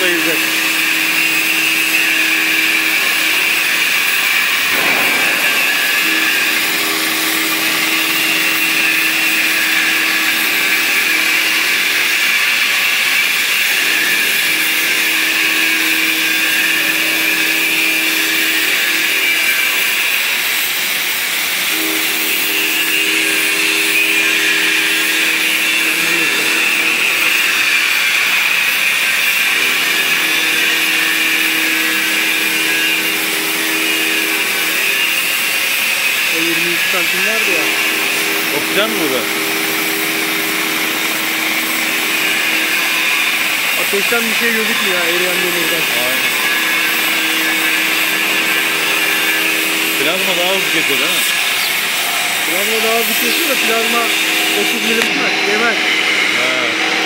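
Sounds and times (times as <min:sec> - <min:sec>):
cutting torch hissing: 0:00.0 - 0:57.0.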